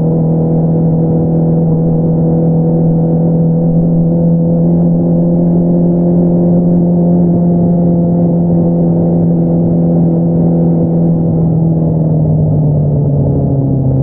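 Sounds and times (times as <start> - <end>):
motorcycle engine at steady revs: 0.0 - 14.0.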